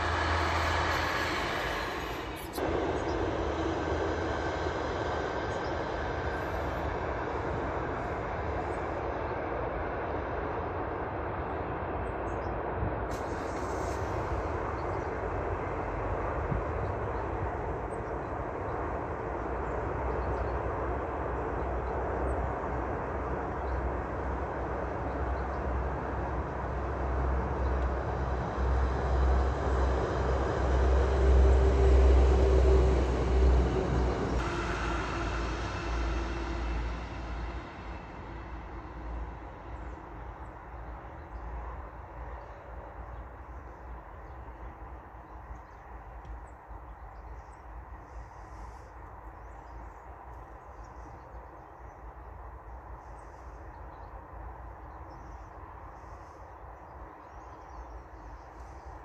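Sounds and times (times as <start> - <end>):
passenger train rumbling past: 0.0 - 59.0.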